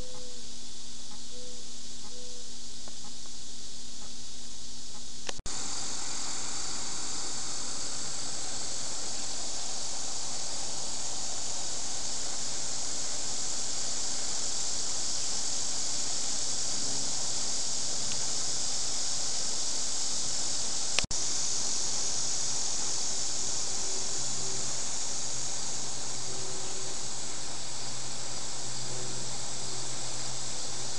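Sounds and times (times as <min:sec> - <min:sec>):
steady high hiss: 0:00.0 - 0:30.9.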